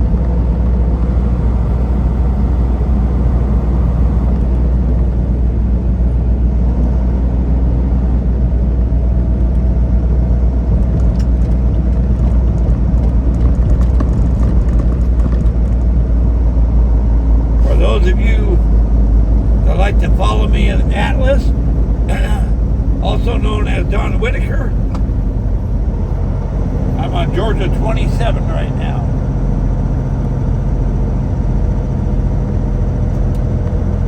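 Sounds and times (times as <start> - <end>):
road noise: 0.0 - 34.0
truck diesel engine rumble: 0.0 - 34.0.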